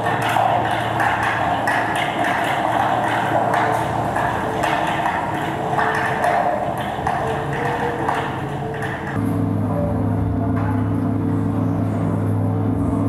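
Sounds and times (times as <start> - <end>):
noisy electronic texture: 0.0 - 13.0.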